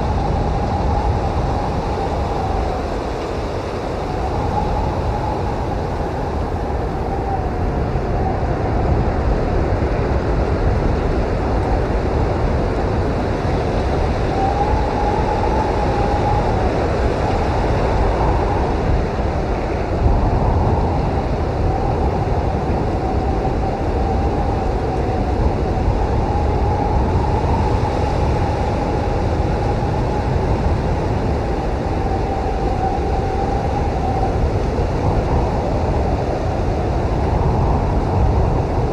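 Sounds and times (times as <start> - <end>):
wind howling: 0.0 - 38.9.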